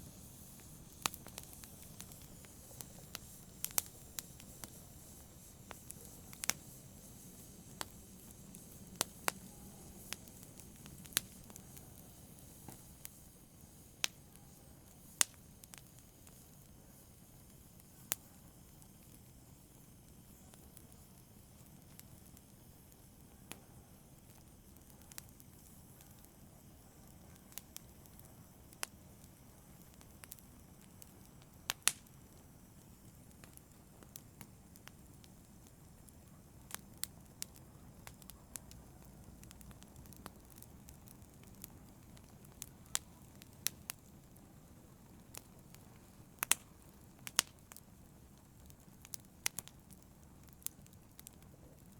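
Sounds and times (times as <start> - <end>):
hiss of flames: 0.0 - 51.9
wood fire crackling and popping: 0.0 - 51.9.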